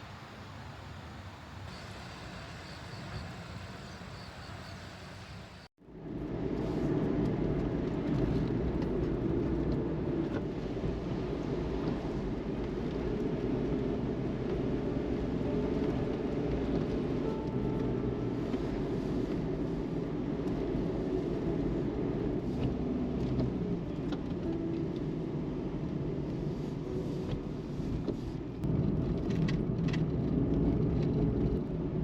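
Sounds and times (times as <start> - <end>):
vehicle driving in rain: 6.1 - 32.0.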